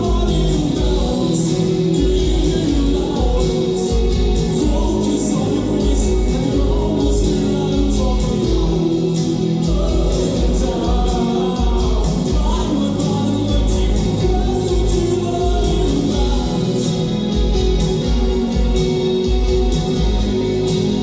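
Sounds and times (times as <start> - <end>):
live band playing: 0.0 - 21.0
person singing: 0.0 - 21.0
pulsing bass: 0.0 - 21.0.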